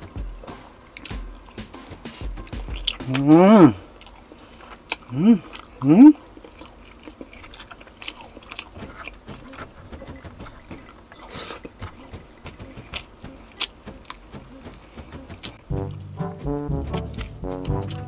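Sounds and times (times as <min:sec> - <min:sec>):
person chewing chicken: 0:02.8 - 0:12.0, 0:12.7 - 0:18.0.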